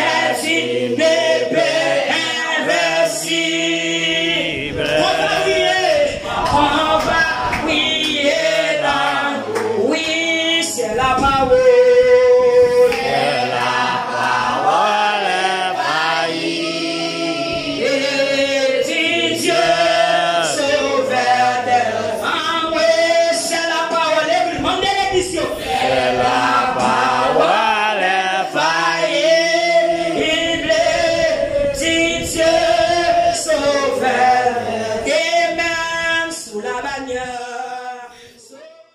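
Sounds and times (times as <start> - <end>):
congregation singing: 0.0 - 38.9
woman singing through loudspeaker: 0.0 - 38.9.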